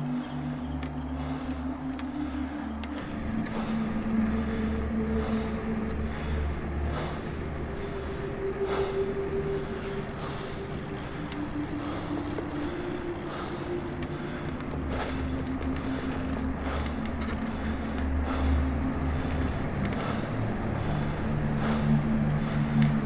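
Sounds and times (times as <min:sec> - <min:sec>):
bicycle road noise: 0:00.0 - 0:23.0
faint hum: 0:00.0 - 0:23.0.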